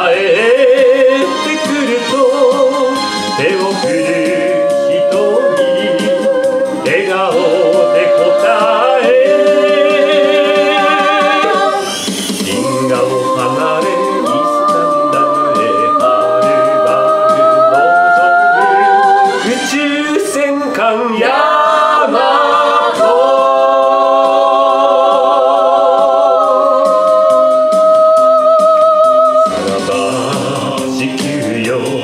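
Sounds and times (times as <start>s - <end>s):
a cappella voices singing: 0.0s - 32.0s.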